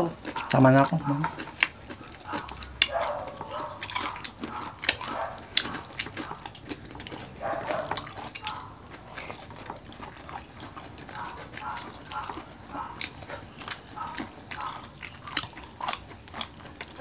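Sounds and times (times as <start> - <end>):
chewing and mouth smacking: 0.0 - 17.0.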